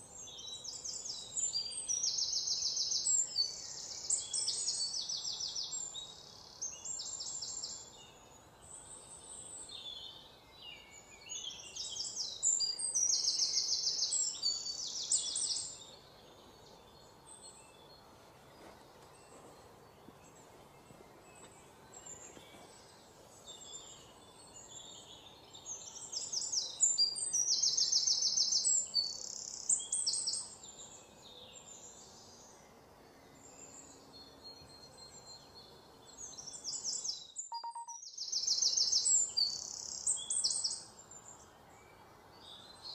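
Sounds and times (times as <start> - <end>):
birds singing rapid trills: 0.0 - 42.9
faint bird chirps: 0.0 - 42.9.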